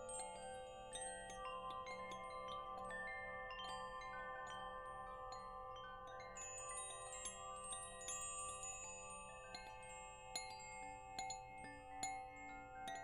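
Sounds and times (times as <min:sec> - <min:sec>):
wind chimes ringing: 0:00.0 - 0:13.0.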